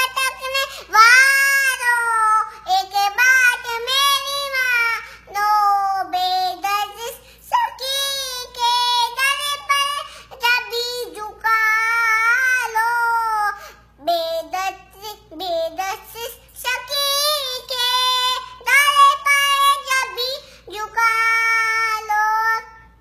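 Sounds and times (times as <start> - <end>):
girl singing unaccompanied: 0.0 - 23.0.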